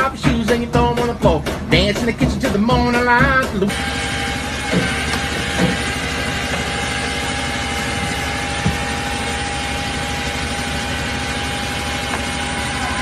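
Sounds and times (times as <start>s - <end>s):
engine whine: 0.0s - 13.0s
truck engine running: 0.0s - 13.0s.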